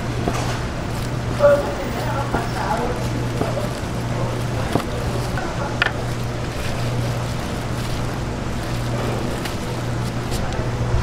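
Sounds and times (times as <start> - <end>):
background rush: 0.0 - 11.0
low mechanical hum: 0.0 - 11.0.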